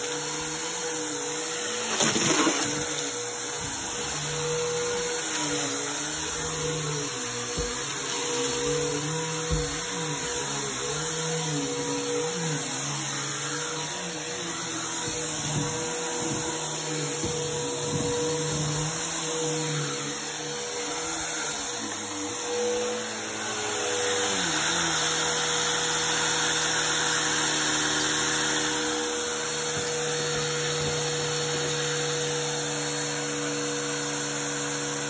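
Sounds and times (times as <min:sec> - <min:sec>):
vacuum cleaner running on carpet: 0:00.0 - 0:35.0.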